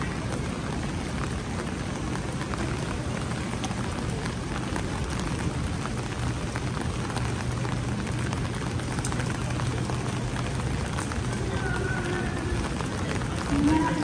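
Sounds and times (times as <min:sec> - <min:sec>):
rain falling on street: 0:00.0 - 0:14.0.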